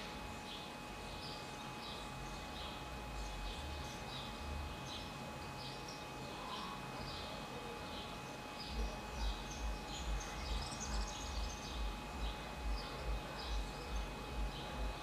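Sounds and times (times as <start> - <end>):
faint steady high tone: 0.0 - 15.0.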